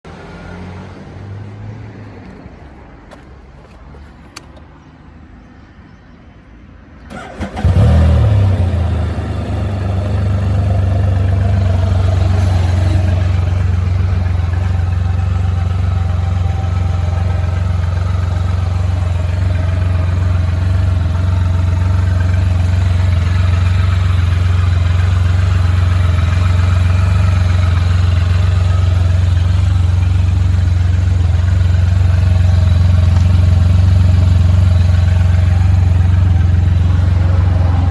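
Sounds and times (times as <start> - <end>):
motorcycle engine starting and idling: 7.0 - 37.9.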